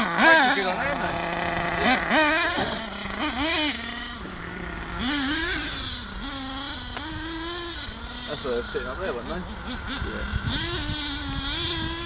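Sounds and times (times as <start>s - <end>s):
model truck engine revving: 0.0s - 12.0s.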